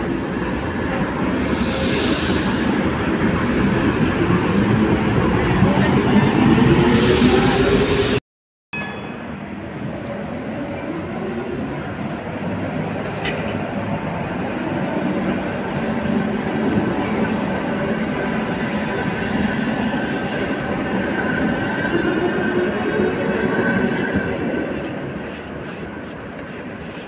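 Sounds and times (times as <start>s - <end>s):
tram passing on rails: 0.0s - 8.2s, 8.8s - 27.0s.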